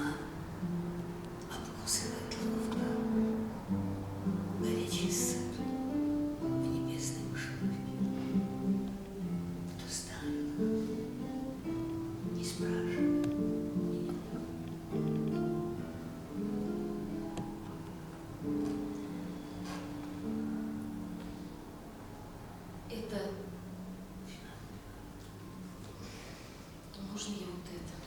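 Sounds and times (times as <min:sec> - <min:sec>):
acoustic guitar playing: 0:00.0 - 0:22.9.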